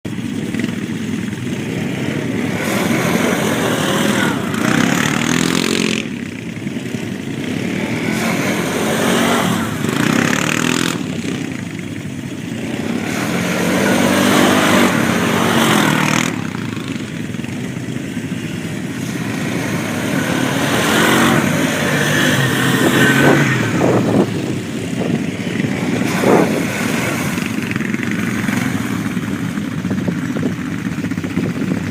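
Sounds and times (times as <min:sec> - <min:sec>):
quad bike engines revving: 0:00.1 - 0:31.9.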